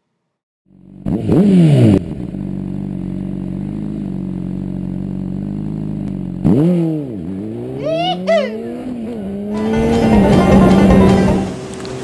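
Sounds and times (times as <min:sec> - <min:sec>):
motorcycle engine revving: 0:00.7 - 0:12.0.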